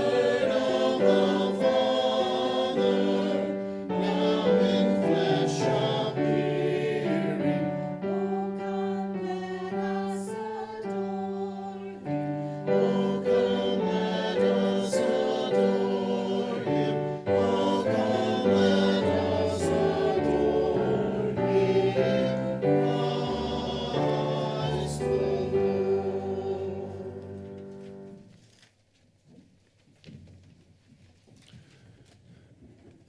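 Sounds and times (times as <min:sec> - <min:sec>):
choir singing: 0:00.0 - 0:28.2.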